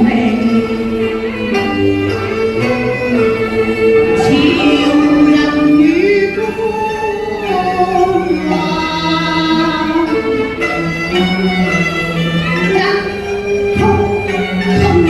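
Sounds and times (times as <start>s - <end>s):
bowed-string accompaniment: 0.0s - 15.0s
gliding sung notes: 0.0s - 15.0s.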